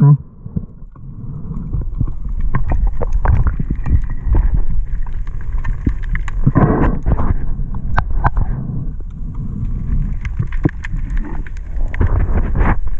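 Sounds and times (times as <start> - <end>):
low rumble: 0.0 - 12.9
water sloshing and splashing: 0.8 - 12.9.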